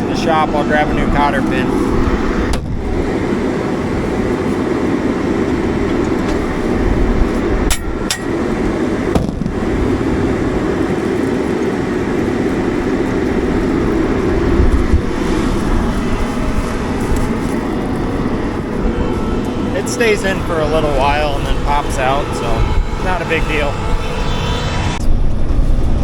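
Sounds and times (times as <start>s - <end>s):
tractor engine rumbling: 0.0s - 26.0s.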